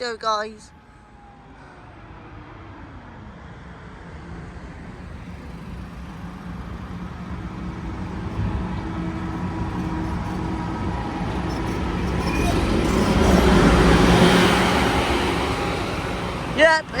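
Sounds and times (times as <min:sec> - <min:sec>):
bus engine approaching: 0:00.0 - 0:17.0.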